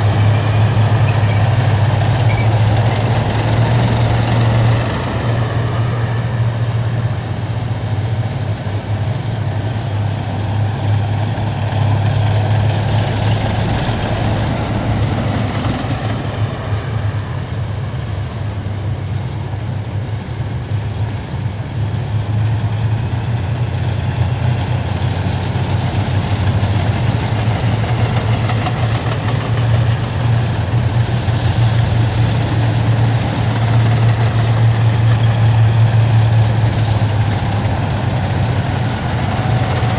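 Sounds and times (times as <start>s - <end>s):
heavy vehicles driving past: 0.0s - 19.4s, 23.7s - 39.9s.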